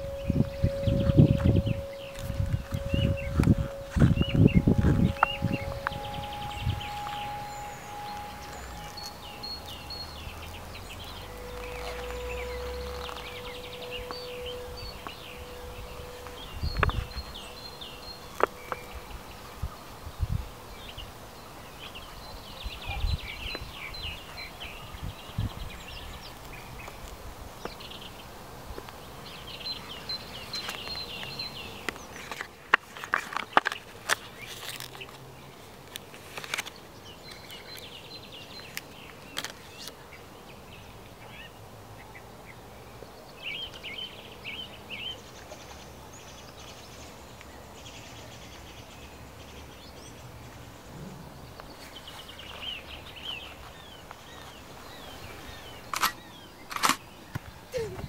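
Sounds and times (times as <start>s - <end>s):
birds chirping and chattering: 0.0s - 58.0s.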